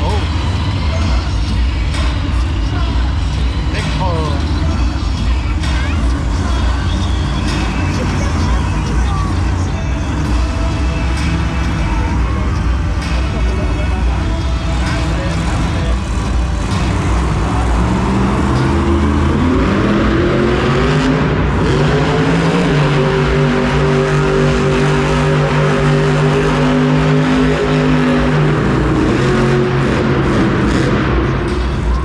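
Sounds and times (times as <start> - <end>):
arena crowd noise: 0.0 - 32.0
truck engine revving: 0.0 - 32.0.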